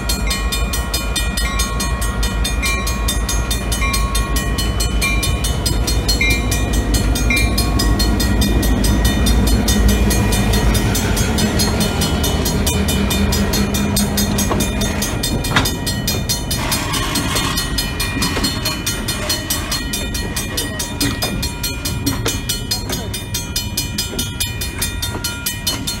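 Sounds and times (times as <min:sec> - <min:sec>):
crossing bell ringing: 0:00.0 - 0:26.0
freight train wheels rumbling: 0:00.0 - 0:26.0.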